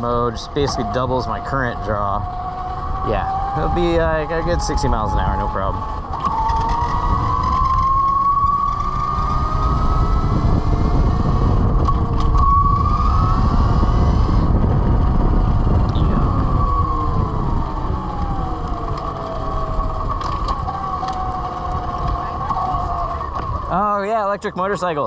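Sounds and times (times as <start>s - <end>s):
wind rush on microphone: 0.0s - 24.0s
electric motorcycle motor whine: 0.0s - 24.8s.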